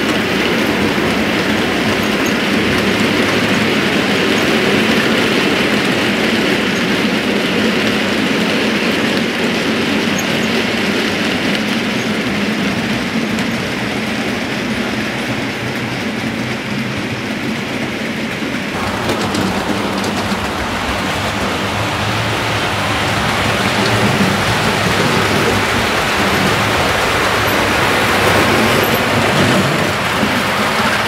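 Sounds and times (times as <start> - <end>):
model train rattling on track: 0.0 - 31.0.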